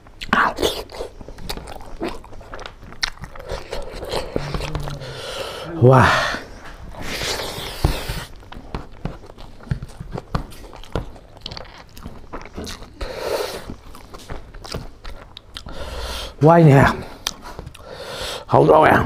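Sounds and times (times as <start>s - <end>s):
wet chewing and lip smacks: 0.1s - 5.3s, 6.6s - 15.8s, 17.1s - 17.9s.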